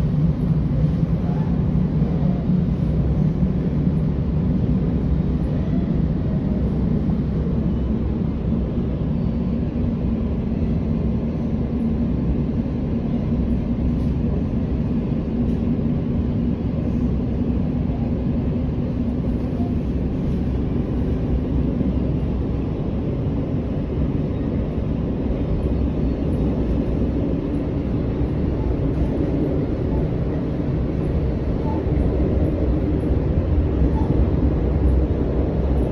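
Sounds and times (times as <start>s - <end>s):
train rumbling at speed: 0.0s - 35.9s.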